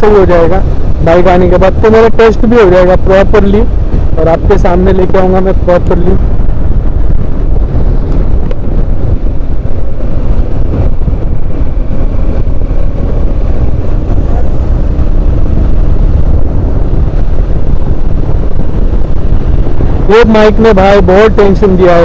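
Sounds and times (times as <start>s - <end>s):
motorcycle engine running: 0.0s - 22.0s
road noise: 0.0s - 22.0s
wind blast on microphone: 0.0s - 22.0s.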